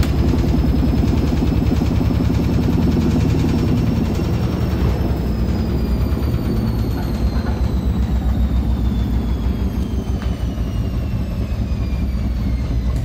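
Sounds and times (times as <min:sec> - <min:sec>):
washing machine drum rumbling: 0:00.0 - 0:11.6.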